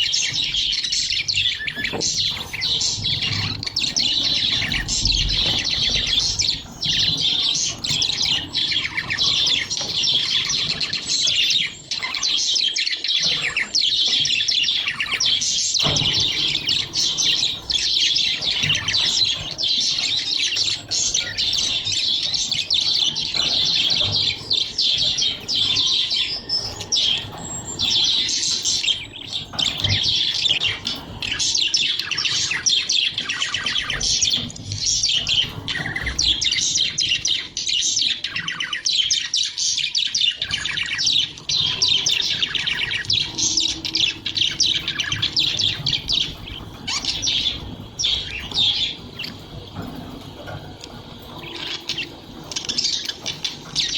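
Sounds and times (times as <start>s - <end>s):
budgerigars chirping and chattering: 0.0s - 53.9s.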